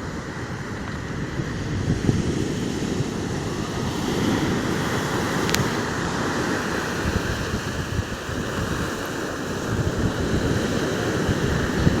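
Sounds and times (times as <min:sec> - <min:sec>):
waves rushing: 0:00.0 - 0:12.0
wind buffeting microphone: 0:00.0 - 0:12.0.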